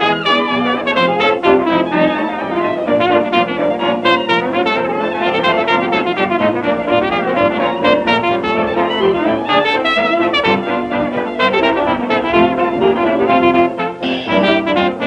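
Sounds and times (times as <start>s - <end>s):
hot jazz band on old record: 0.0s - 15.0s.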